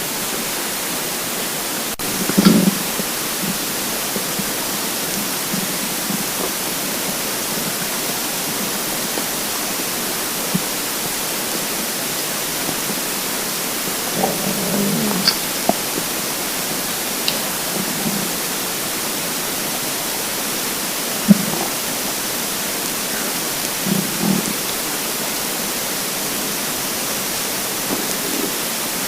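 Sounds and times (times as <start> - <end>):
steady hiss: 0.0 - 29.0
stomach rumbling: 1.9 - 29.0.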